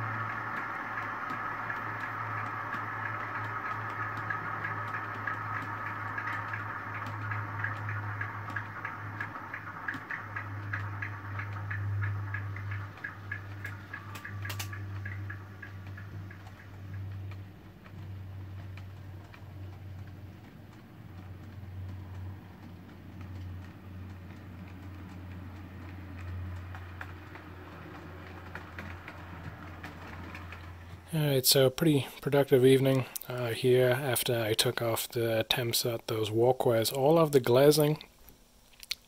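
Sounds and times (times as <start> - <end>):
model train motor whine: 0.0 - 34.5
wheels clicking over rail joints: 0.0 - 37.8
steady low hum: 0.0 - 39.0.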